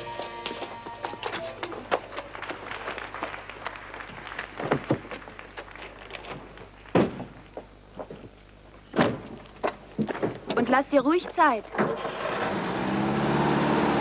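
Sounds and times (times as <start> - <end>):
footsteps clicking on street: 0.0 - 11.7.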